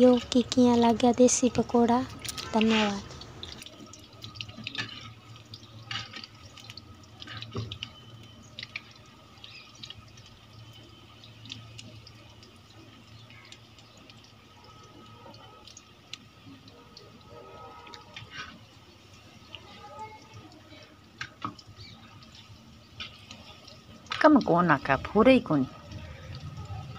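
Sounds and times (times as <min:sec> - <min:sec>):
batter sizzling in hot oil: 0:00.0 - 0:26.9.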